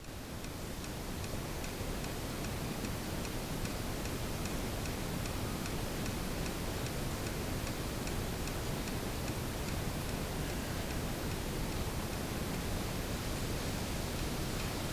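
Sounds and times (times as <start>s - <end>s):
faint steady ticking: 0.0s - 13.2s
low rumbling room hiss: 0.0s - 14.9s.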